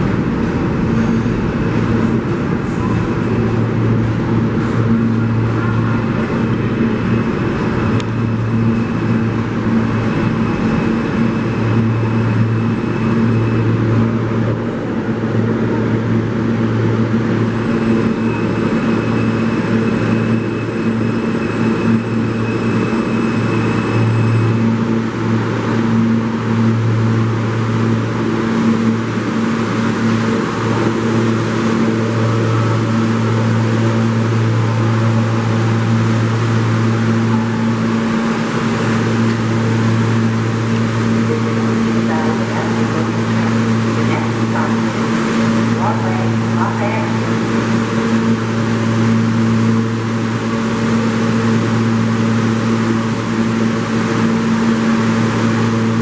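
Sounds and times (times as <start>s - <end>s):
subway station rumble and hum: 0.0s - 56.0s
subway train pulling in: 0.0s - 56.0s
faint high whining tones: 0.5s - 56.0s.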